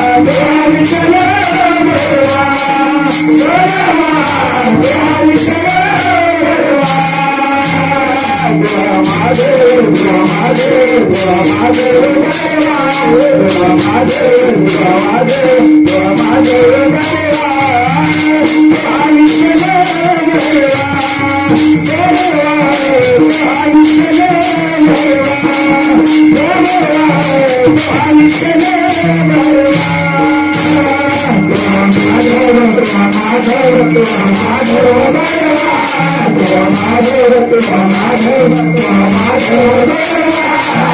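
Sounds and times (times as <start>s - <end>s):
man singing: 0.0s - 40.9s
rhythmic jingling percussion: 0.0s - 40.9s.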